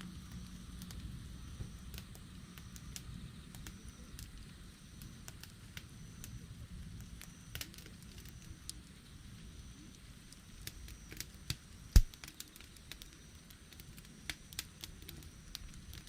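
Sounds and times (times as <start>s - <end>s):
low steady rumble: 0.0s - 16.0s
wood campfire crackling: 0.0s - 16.0s.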